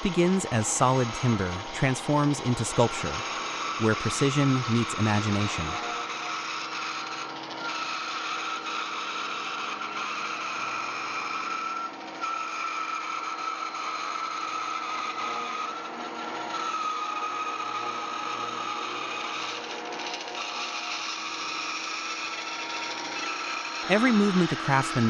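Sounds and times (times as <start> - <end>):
power saw cutting wood: 0.0 - 25.0.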